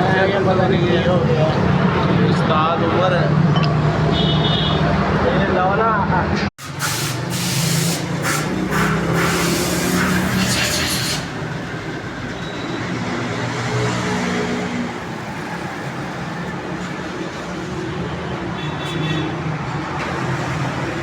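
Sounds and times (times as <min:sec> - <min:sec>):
road traffic engines: 0:00.0 - 0:21.0.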